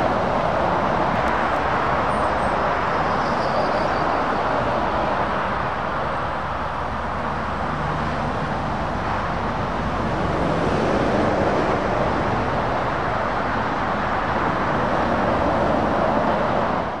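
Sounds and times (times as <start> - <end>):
motorway traffic: 0.0 - 17.0.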